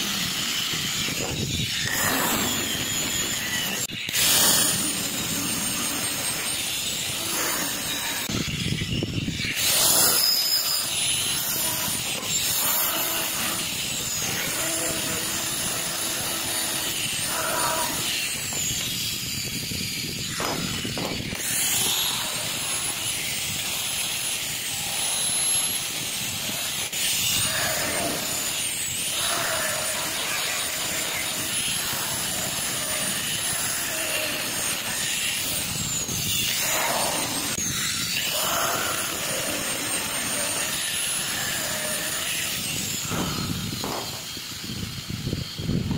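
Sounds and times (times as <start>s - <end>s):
grinding on metal: 0.0s - 45.8s
angle grinder whining: 0.0s - 45.9s.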